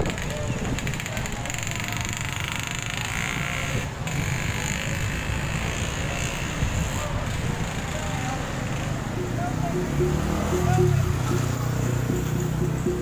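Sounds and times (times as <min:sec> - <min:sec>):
road traffic driving past: 0:00.0 - 0:13.0.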